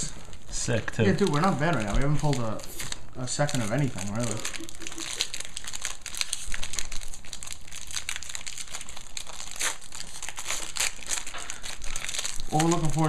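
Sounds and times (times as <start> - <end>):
wrappers crinkling and tearing: 0.0 - 13.0.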